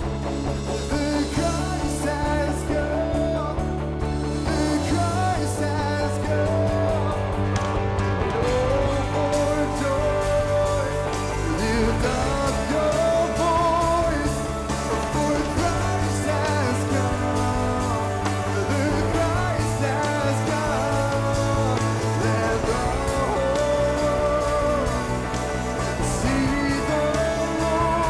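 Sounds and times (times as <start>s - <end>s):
man singing: 0.0s - 28.0s
rock band with strings: 0.0s - 28.0s.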